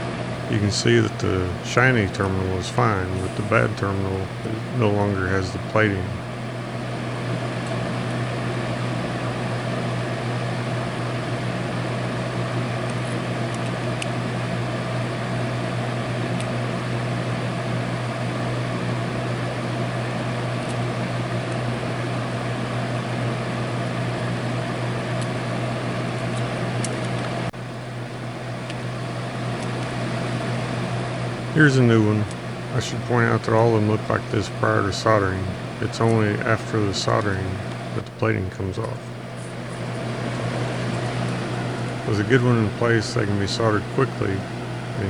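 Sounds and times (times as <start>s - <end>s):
mechanical hum with low drone: 0.0s - 45.0s.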